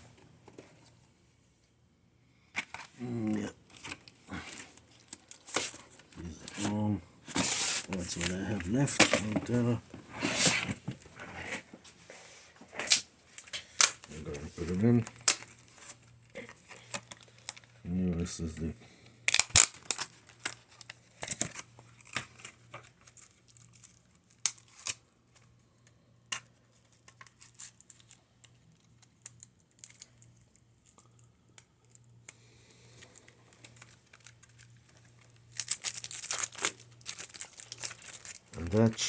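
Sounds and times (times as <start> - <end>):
plastic packaging crinkling and tearing: 2.6 - 9.8, 12.8 - 18.6, 19.2 - 25.6, 26.3 - 39.0.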